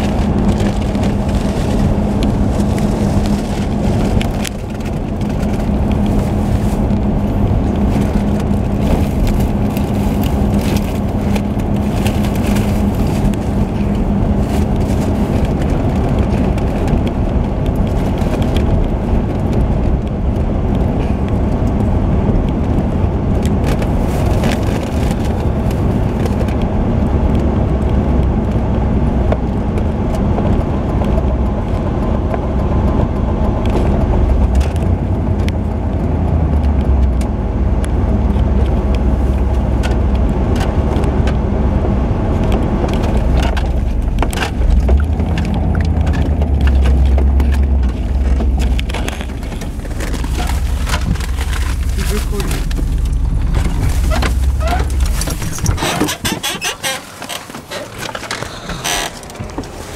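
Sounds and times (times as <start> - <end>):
car engine hum: 0.0 - 59.9
tyres rumbling on road: 0.0 - 59.9.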